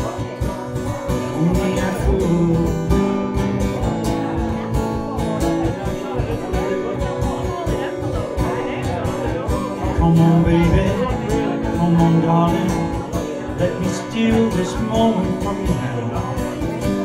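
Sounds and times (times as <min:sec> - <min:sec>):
acoustic guitar strumming: 0:00.0 - 0:17.0
cajon beat: 0:00.0 - 0:17.0
man singing: 0:00.0 - 0:17.0.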